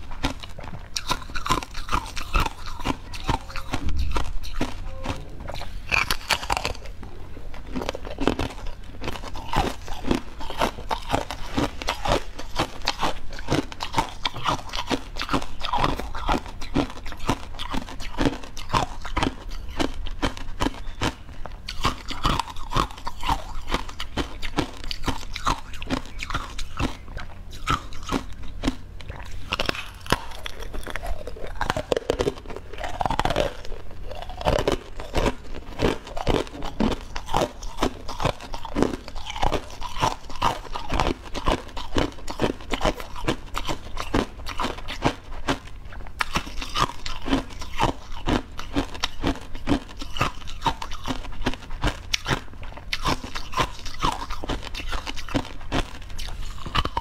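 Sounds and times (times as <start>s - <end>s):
person crunching crisp food: 0.0s - 57.0s.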